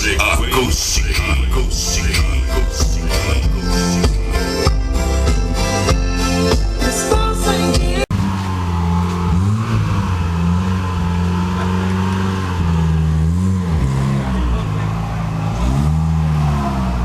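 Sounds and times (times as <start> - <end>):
car engine idling with throttle blips: 0.0 - 5.4, 8.1 - 17.0.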